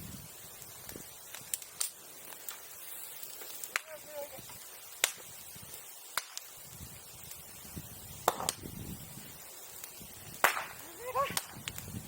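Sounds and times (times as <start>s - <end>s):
bamboo popping in a bonfire: 0.0s - 12.0s
fire crackling and rustling: 0.0s - 12.0s.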